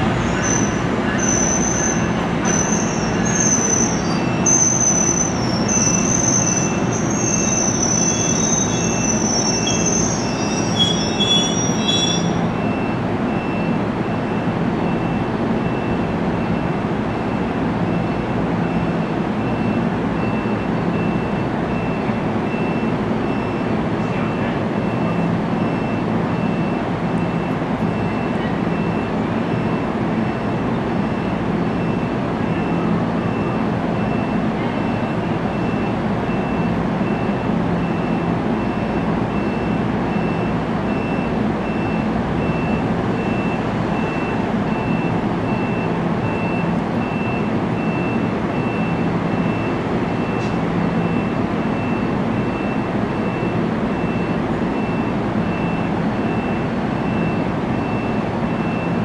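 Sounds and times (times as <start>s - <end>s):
train equipment rush and hum: 0.0s - 59.0s.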